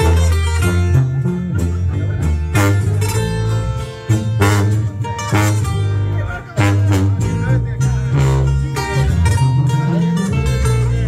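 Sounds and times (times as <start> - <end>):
strummed and plucked guitars: 0.0 - 11.0
tuba bass line: 0.0 - 11.0.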